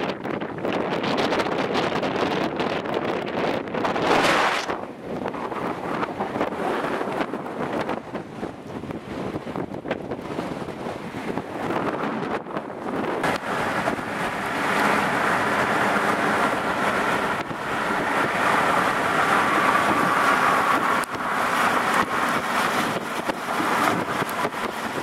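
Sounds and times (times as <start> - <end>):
car wind and road noise: 0.0 - 25.0.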